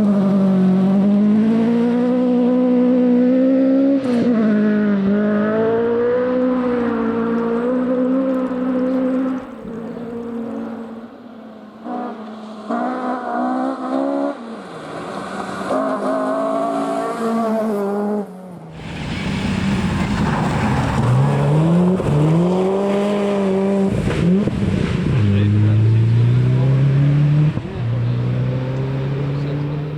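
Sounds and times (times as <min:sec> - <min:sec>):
rally car engine shifting gears: 0:00.0 - 0:11.1, 0:11.8 - 0:29.9.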